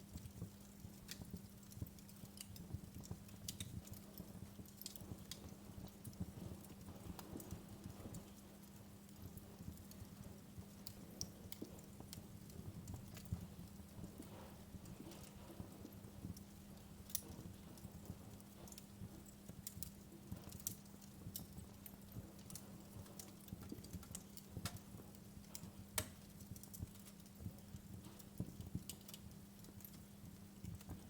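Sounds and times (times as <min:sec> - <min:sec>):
logs crackling in a fireplace: 0:00.0 - 0:31.0
sharp pops from fire: 0:00.0 - 0:31.0.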